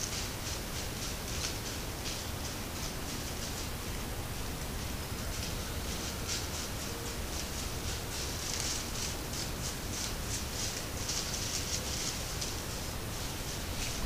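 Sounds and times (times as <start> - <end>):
dry leaves rustling: 0.0 - 14.0
steady hiss: 0.0 - 14.0.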